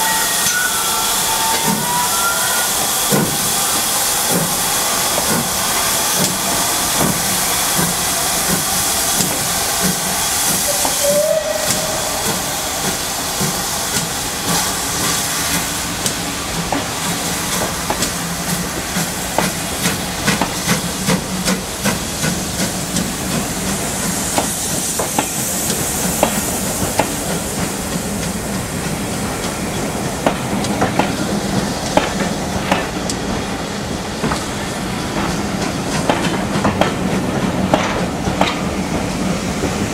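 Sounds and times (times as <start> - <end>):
steam hissing: 0.0 - 39.9
steam locomotive pulling away: 0.0 - 39.9.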